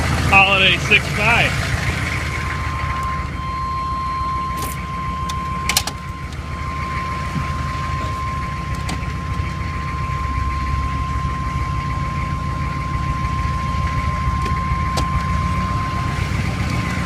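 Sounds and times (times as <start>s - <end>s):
diesel engine idling: 0.0s - 17.0s
steady high whine: 0.0s - 17.0s.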